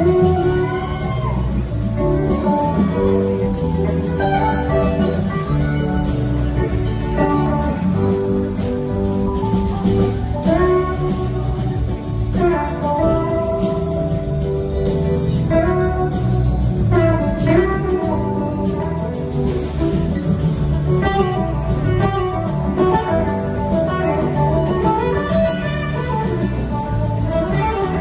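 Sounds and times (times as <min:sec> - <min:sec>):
electric guitar lead: 0:00.0 - 0:28.0
live rock band: 0:00.0 - 0:28.0.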